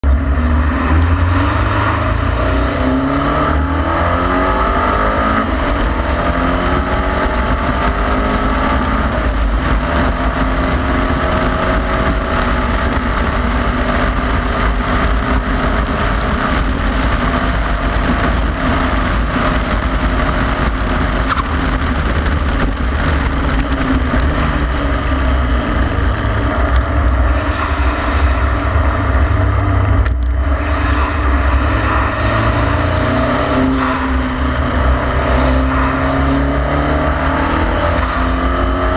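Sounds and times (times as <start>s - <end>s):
car engine accelerating: 0.0s - 38.9s
heavy low rumble: 0.0s - 38.9s.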